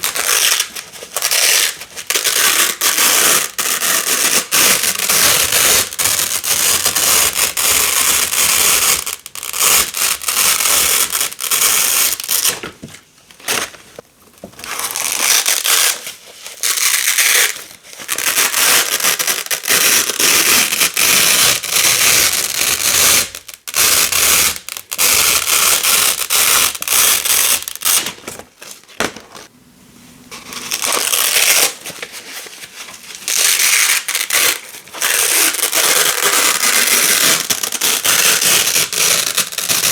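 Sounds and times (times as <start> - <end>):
hook and loop tape ripping: 0.0 - 12.6, 14.6 - 16.0, 16.6 - 28.2, 30.5 - 31.8, 33.3 - 39.9.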